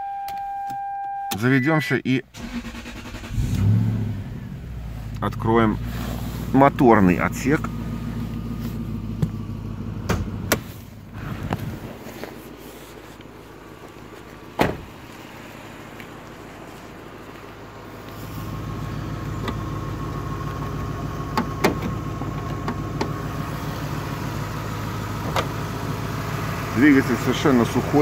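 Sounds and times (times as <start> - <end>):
car engine idling: 2.3 - 28.0.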